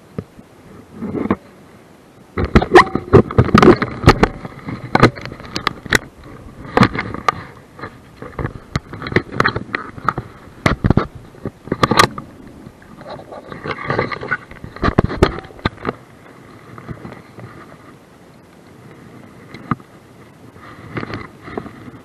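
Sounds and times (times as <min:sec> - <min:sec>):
water splashing against camera: 0:02.3 - 0:22.0.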